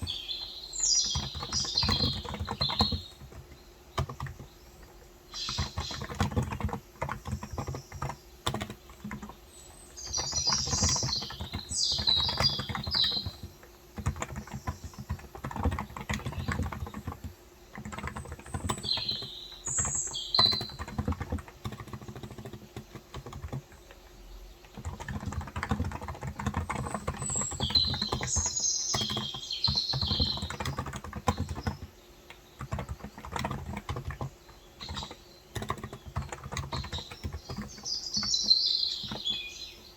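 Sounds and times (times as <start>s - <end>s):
birds chirping: 0.0s - 39.9s
keyboard typing: 0.0s - 39.9s.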